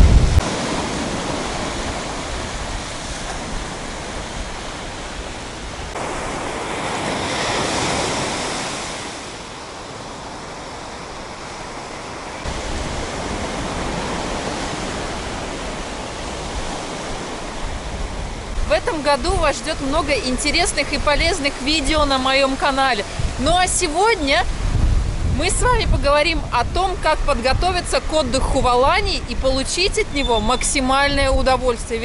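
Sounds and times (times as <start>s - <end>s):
surf breaking on beach: 0.0s - 30.0s
wind on microphone: 0.0s - 32.0s.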